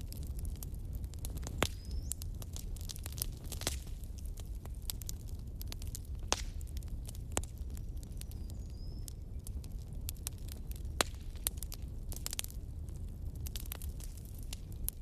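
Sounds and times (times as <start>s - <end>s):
bonfire pops and snaps: 0.0s - 15.0s
flames rumbling: 0.0s - 15.0s.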